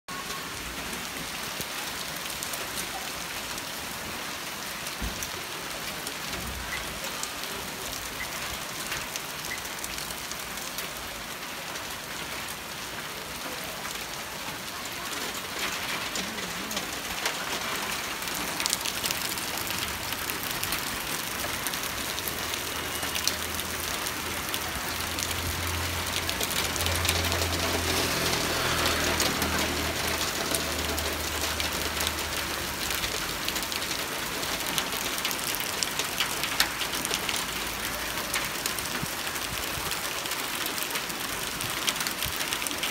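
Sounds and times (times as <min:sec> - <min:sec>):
hail and rain falling: 0:00.1 - 0:42.9
hailstones ticking on hard surfaces: 0:00.2 - 0:42.9.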